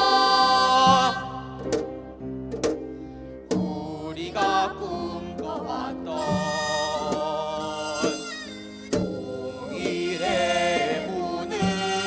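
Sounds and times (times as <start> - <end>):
voices singing long notes: 0.0 - 1.8, 3.6 - 12.0
instrumental accompaniment: 0.0 - 12.0.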